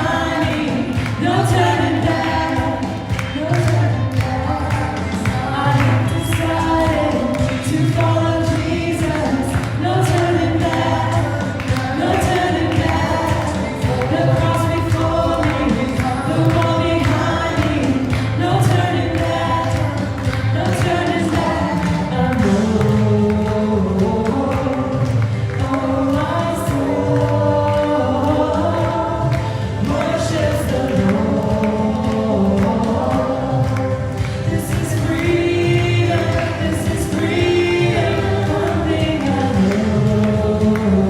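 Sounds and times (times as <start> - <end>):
band with low beat: 0.0 - 41.0
voices singing together: 0.0 - 41.0.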